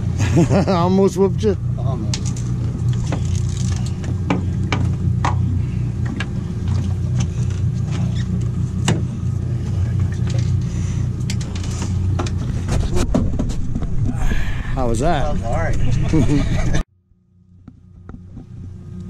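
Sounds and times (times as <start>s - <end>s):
outboard motors idling: 0.0s - 19.0s.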